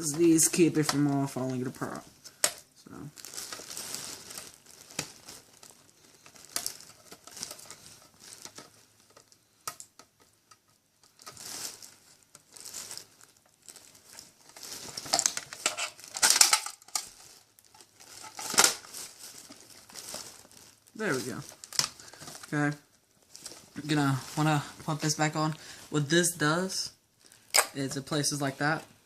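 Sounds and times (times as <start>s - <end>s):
hands handling plastic parts: 0.0s - 25.0s, 27.3s - 28.7s.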